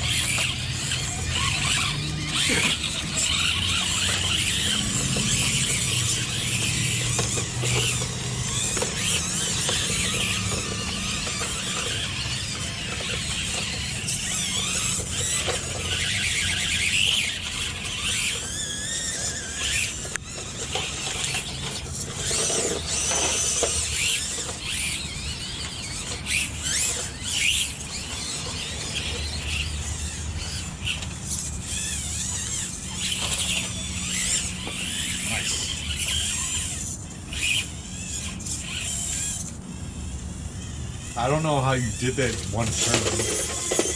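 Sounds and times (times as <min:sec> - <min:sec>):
electric motors whining: 0:00.0 - 0:43.9
tyres scraping on rock: 0:00.0 - 0:43.9.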